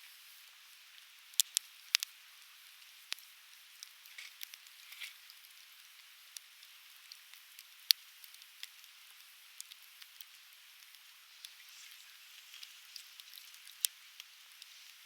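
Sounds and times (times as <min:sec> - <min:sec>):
logs crackling in a campfire: 0:00.9 - 0:15.0.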